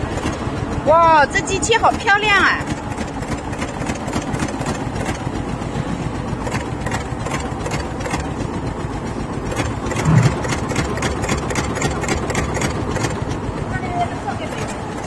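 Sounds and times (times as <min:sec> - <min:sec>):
embroidery machine running: 0:00.0 - 0:15.0.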